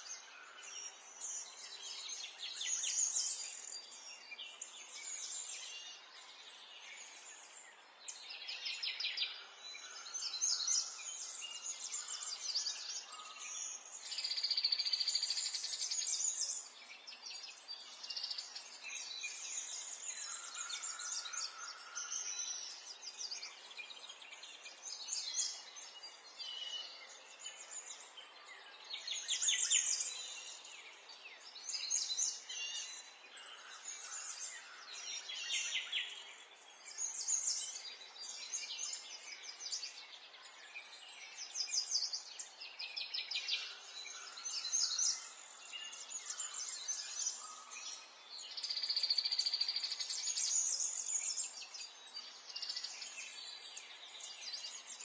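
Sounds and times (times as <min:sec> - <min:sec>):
songbirds singing and trilling: 0:00.0 - 0:55.0.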